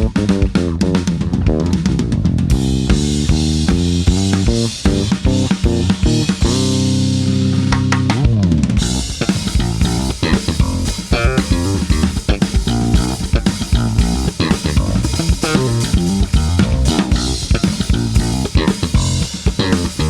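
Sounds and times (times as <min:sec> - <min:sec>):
bass guitar playing: 0:00.0 - 0:20.0
drum kit: 0:00.0 - 0:20.0.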